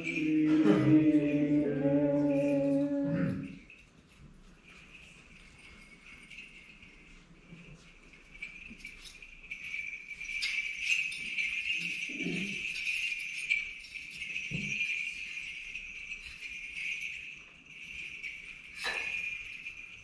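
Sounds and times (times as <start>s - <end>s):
small metal bells jingling: 0.0s - 20.0s.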